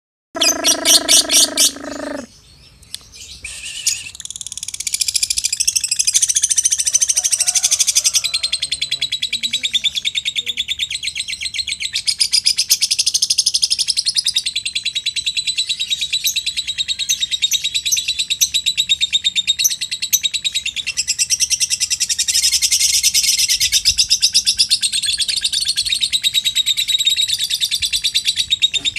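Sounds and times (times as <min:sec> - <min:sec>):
bird chattering trill: 0:00.4 - 0:02.3, 0:03.3 - 0:28.9.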